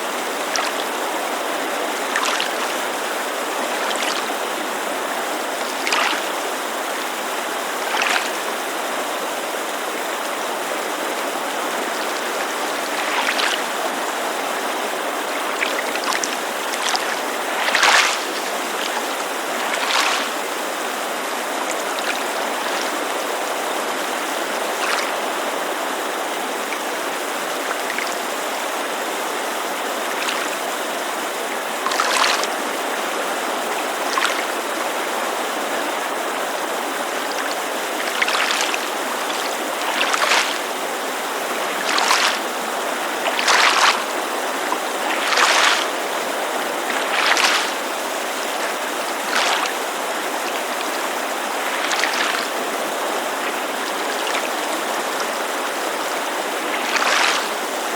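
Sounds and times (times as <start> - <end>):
creek rushing: 0.0 - 57.9
small waves splashing on shore: 0.0 - 57.9.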